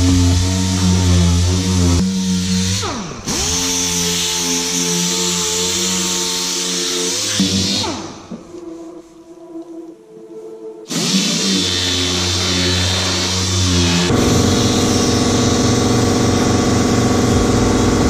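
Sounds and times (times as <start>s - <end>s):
air orbital sander running: 0.0s - 8.1s, 10.9s - 18.0s.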